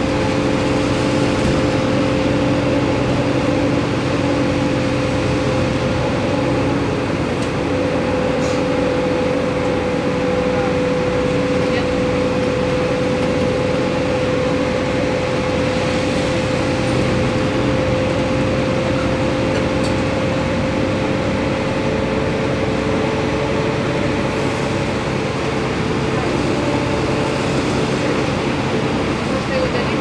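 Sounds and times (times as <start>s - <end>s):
bus engine hum: 0.0s - 30.0s.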